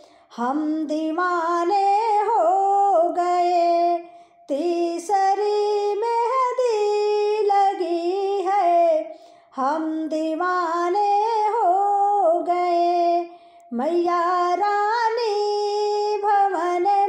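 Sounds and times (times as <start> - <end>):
woman singing unaccompanied: 0.0 - 17.0.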